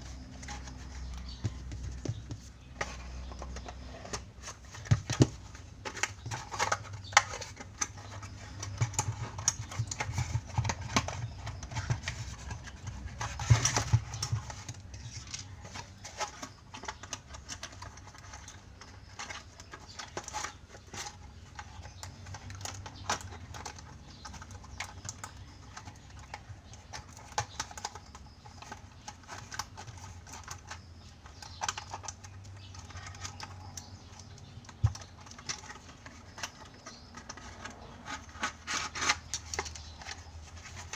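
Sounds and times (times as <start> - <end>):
plastic toy clicks and rustles: 0.1 - 40.9.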